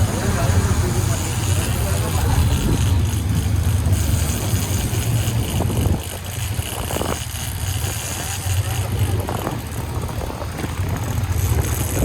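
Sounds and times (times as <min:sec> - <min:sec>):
yacht engines droning: 0:00.0 - 0:12.0.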